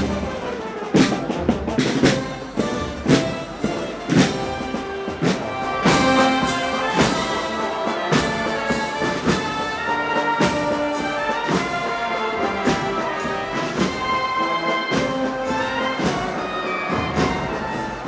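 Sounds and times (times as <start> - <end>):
drum strokes: 0.0 - 18.0
wind and brass chords: 0.0 - 18.0.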